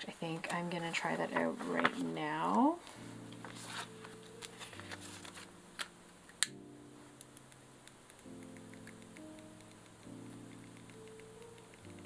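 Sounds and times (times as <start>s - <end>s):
soft music of sustained chords: 0.0s - 12.0s.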